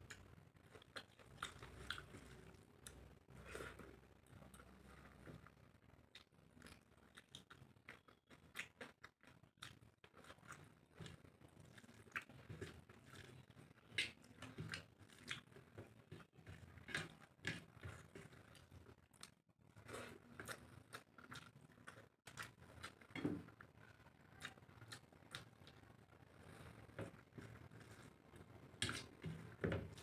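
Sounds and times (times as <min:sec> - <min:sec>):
person chewing food: 0:00.0 - 0:30.0.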